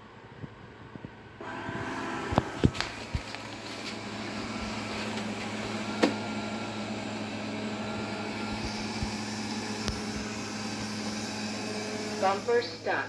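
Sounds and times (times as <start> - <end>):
robot vacuum humming: 1.4 - 13.0.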